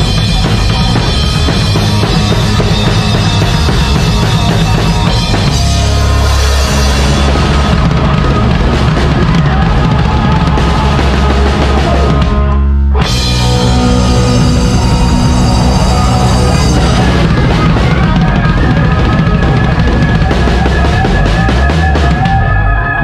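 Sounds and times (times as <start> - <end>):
heavy metal band playing loudly: 0.0 - 23.0.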